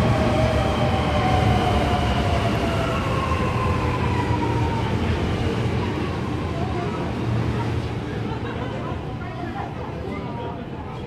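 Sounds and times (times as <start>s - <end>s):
low train rumble: 0.0s - 11.0s.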